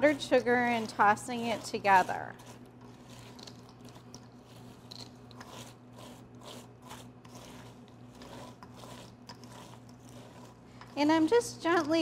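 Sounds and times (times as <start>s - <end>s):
spatula scraping cereal in bowl: 0.0s - 12.0s.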